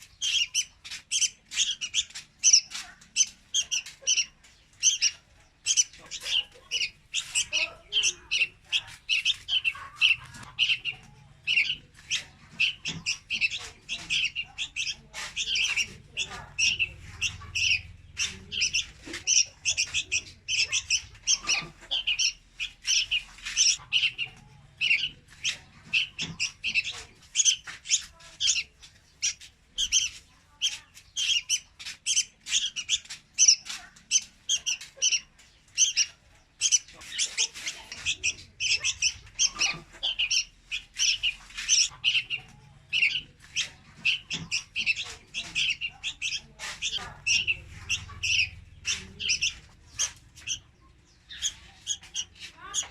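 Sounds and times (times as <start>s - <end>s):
bird calling with high chirps: 0.0s - 52.9s.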